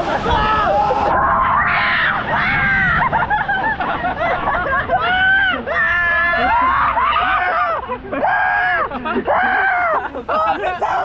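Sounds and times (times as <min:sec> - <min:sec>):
people shouting and screaming: 0:00.0 - 0:03.4, 0:04.2 - 0:11.0.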